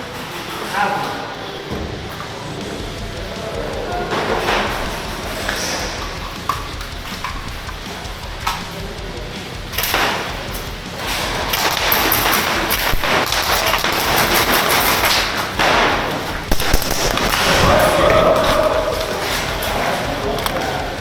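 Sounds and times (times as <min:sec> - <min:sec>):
airsoft guns firing: 0:02.8 - 0:21.0.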